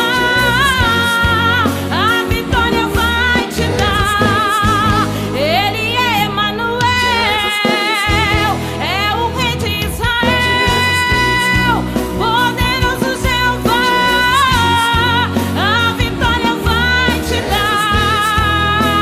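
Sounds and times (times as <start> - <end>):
instrumental backing track: 0.0 - 19.0
woman singing gospel song: 0.0 - 19.0.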